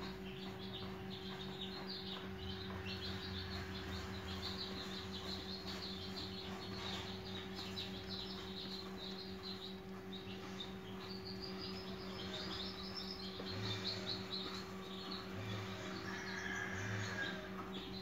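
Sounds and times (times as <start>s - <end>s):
low electrical hum: 0.0s - 18.0s
small birds chirping: 0.0s - 18.0s.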